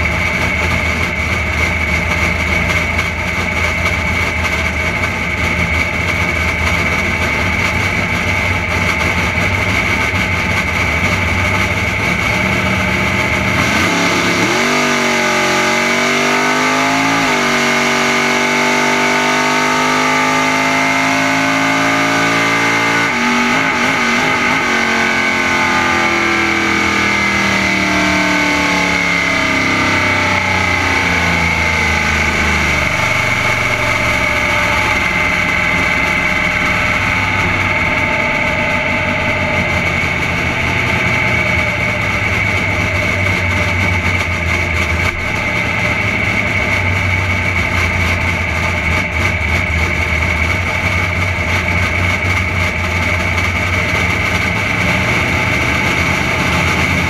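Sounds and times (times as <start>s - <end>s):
drag car engine revving: 0.0s - 57.0s
steady high-pitched whine: 0.0s - 57.0s.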